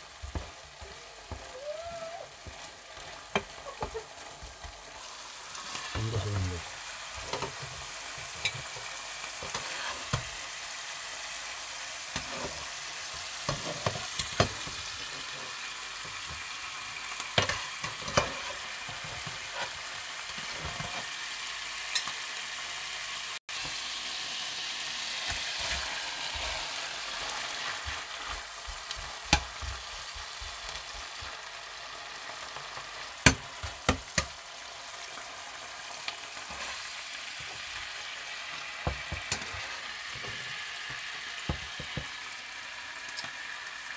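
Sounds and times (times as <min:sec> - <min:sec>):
prawns sizzling in a frying pan: 0:00.0 - 0:43.9.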